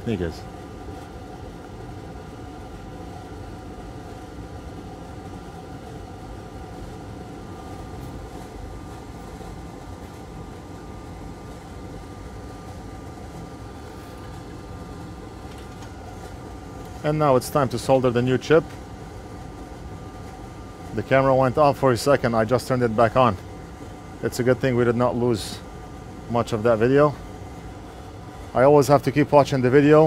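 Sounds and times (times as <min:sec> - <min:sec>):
fume extractor fan whirring: 0:00.0 - 0:30.0.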